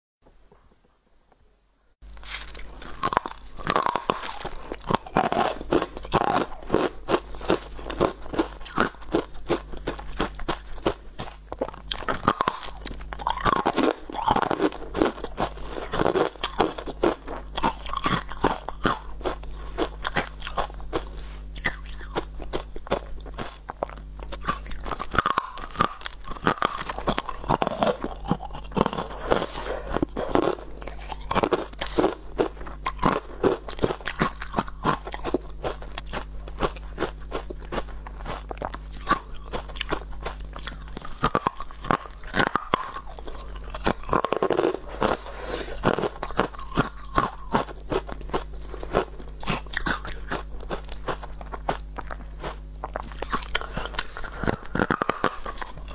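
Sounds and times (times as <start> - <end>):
chewing ice crunches: 2.1 - 55.9.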